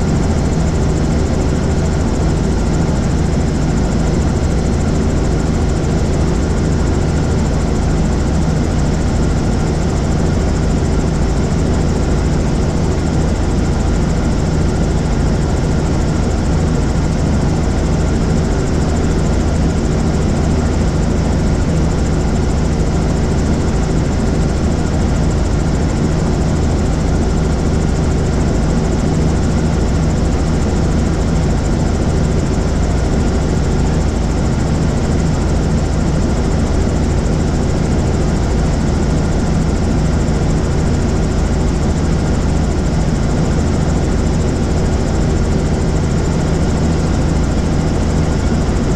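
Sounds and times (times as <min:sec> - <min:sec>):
helicopter engine and rotor: 0:00.0 - 0:48.9.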